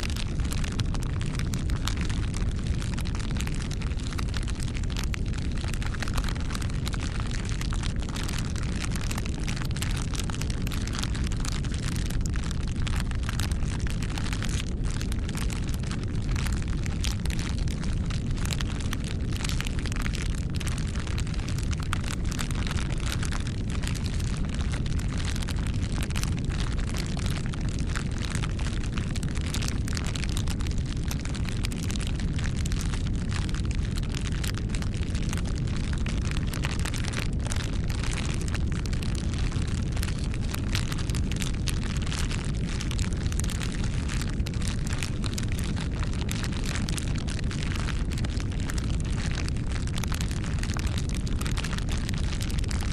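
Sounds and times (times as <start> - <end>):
burning wood crackling: 0.0 - 52.8
low rumble of flames: 0.0 - 52.9.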